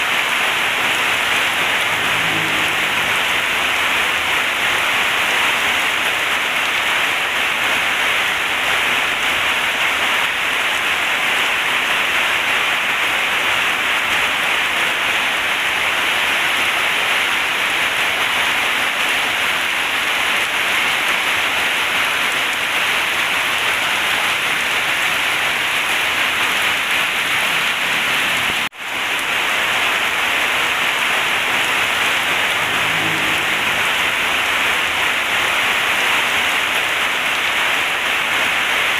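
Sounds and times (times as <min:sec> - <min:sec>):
heavy rain on metal roof: 0:00.0 - 0:38.9.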